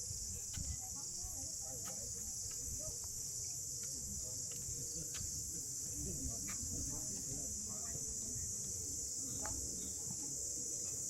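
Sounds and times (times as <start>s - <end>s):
insects chirping chorus: 0.0s - 11.0s.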